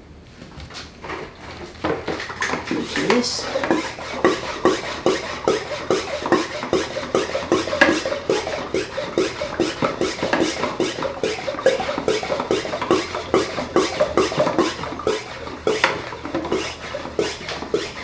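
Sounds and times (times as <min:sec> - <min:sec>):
hand pump squeaking: 0:02.3 - 0:18.0.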